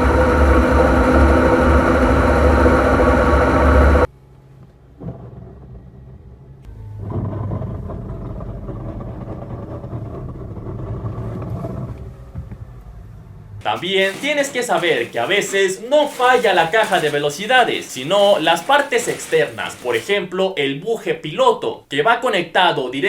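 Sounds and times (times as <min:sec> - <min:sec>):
car drivetrain running: 0:00.0 - 0:04.1, 0:04.7 - 0:20.1.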